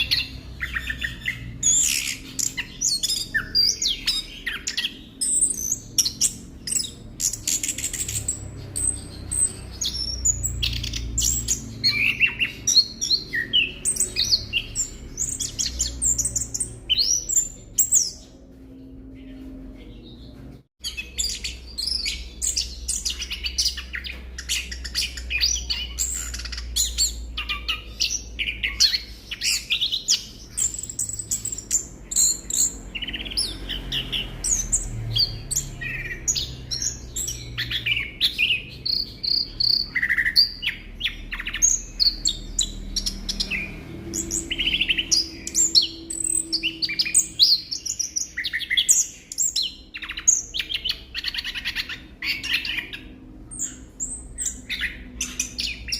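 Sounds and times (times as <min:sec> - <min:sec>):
thrush singing chirps and trills: 0:00.0 - 0:55.9.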